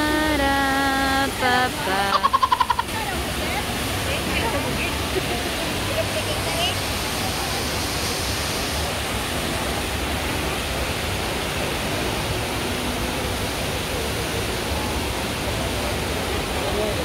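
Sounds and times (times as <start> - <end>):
indoor waterfall pouring: 0.0 - 17.0.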